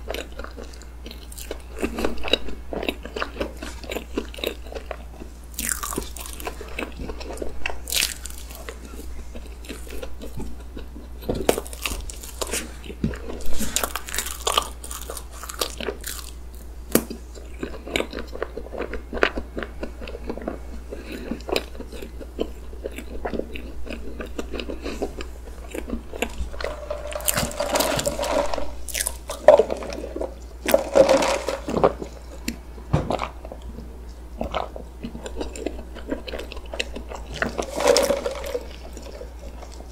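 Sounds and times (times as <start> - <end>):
crunch of crisp bits: 0.0 - 33.8, 34.4 - 39.9.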